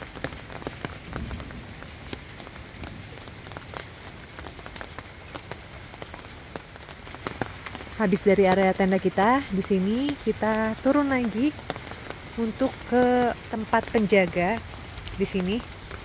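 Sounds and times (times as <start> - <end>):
rain on tent fabric: 0.0 - 16.0.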